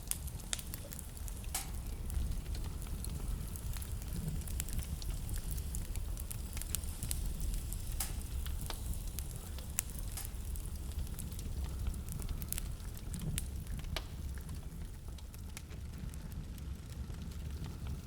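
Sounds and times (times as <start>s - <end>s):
fireplace flames rumbling: 0.0s - 18.0s
wood crackling and popping: 0.0s - 18.0s.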